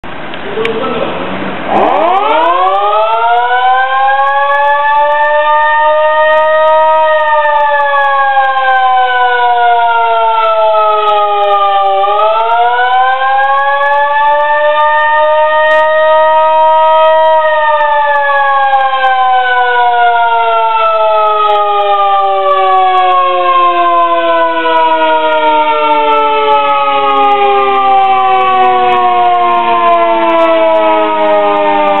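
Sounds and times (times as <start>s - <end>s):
fire truck air siren wailing: 1.5s - 32.0s.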